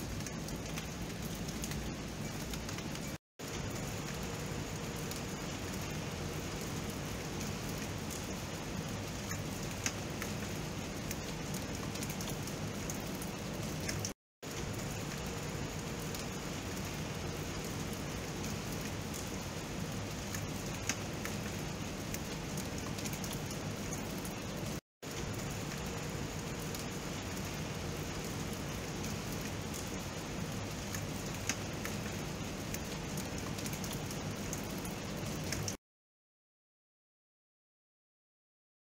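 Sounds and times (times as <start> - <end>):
rain falling: 0.0 - 35.8
sharp raindrop ticks: 0.0 - 35.8.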